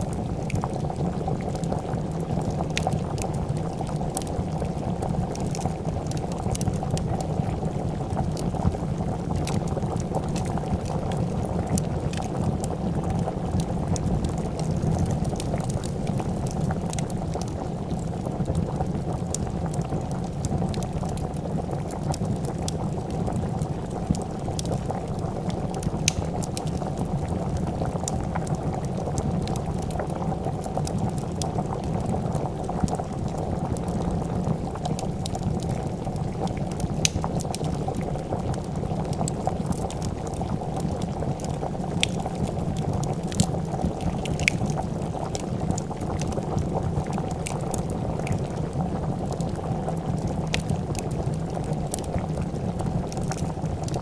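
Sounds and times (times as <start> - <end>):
soup bubbling at a boil: 0.0 - 54.0
wood fire crackling: 0.0 - 54.0.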